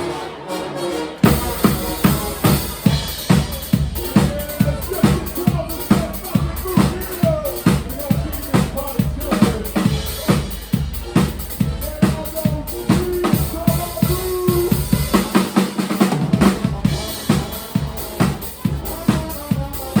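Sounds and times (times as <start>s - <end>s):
live band playing: 0.0s - 20.0s
drum kit beat: 1.2s - 20.0s.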